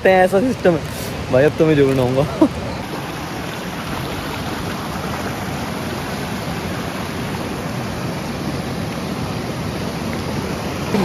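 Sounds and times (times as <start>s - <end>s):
river water roaring: 0.0s - 11.0s.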